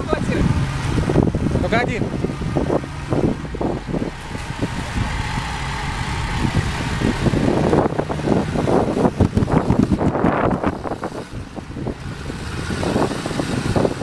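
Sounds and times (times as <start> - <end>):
heavy vehicle engine running: 0.0 - 14.0
uneven rushing noise: 0.0 - 14.0.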